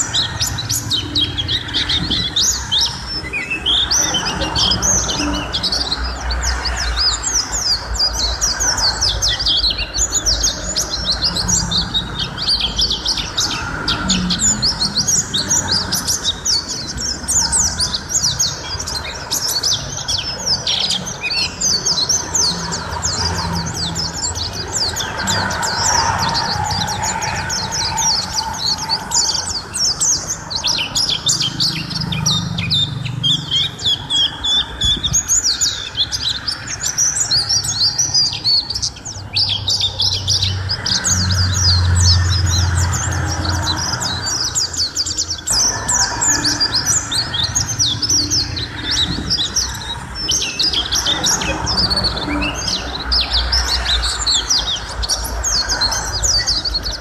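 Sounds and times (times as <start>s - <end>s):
bird twittering chirps: 0.0s - 57.0s.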